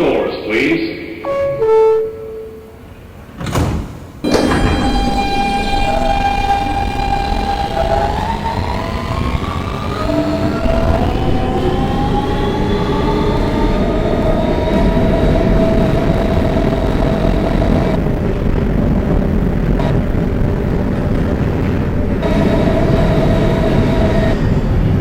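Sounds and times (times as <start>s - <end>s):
wheels rumbling on rails: 4.0s - 25.0s
traction motors whining: 4.2s - 25.0s.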